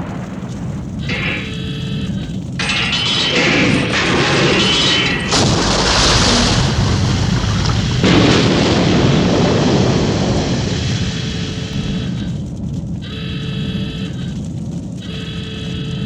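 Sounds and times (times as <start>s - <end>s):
rumbling explosions: 0.0s - 16.0s.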